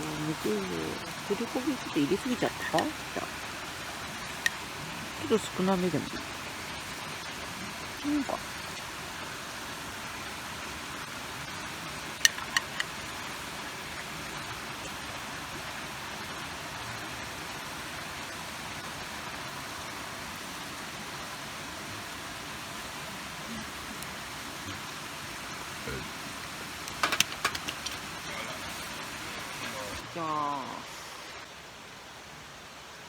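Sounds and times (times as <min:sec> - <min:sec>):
rushing water and rain: 0:00.0 - 0:33.0.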